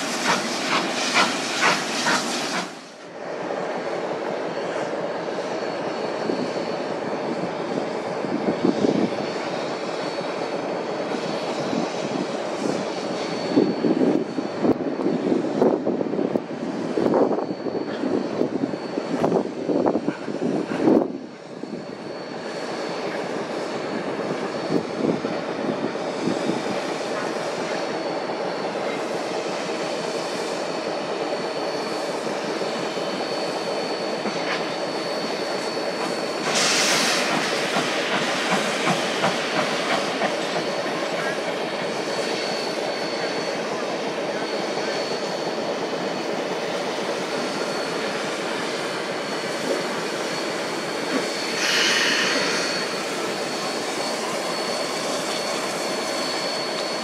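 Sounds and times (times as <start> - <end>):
steam locomotive exhaust beats: 0.0 - 3.1, 3.7 - 57.0.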